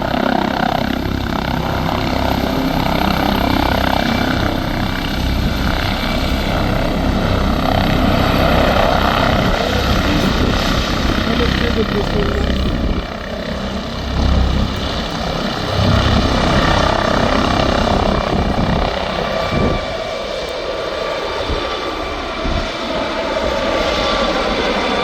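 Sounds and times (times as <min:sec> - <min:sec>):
helicopter engine rush: 0:00.0 - 0:25.0
helicopter rotor rumble: 0:00.0 - 0:25.0.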